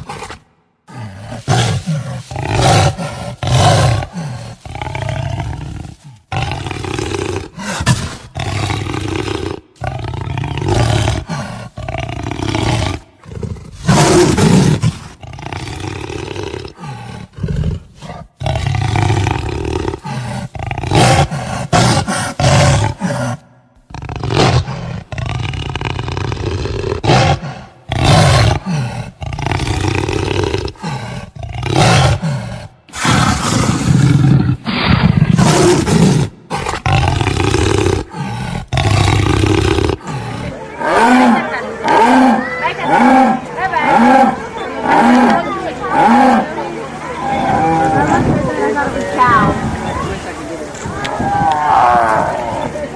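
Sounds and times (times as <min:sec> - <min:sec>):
jaguar roaring and growling: 0:00.0 - 0:49.7, 0:51.0 - 0:52.9.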